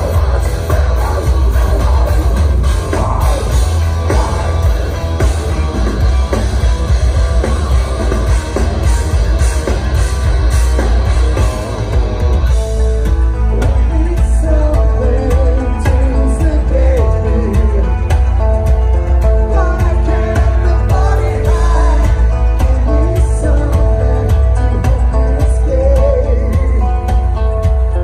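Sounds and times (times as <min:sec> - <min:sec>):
bass guitar: 0:00.0 - 0:28.0
distorted electric guitars: 0:00.0 - 0:28.0
drum kit: 0:00.0 - 0:28.0.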